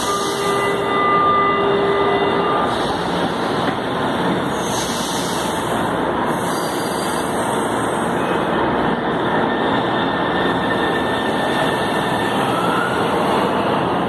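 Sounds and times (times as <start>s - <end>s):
metro train running noise: 0.0s - 14.0s.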